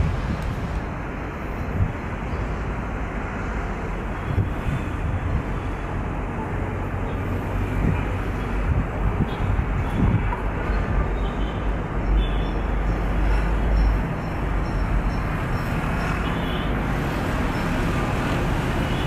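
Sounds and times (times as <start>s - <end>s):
wind gusting on microphone: 0.0s - 19.0s.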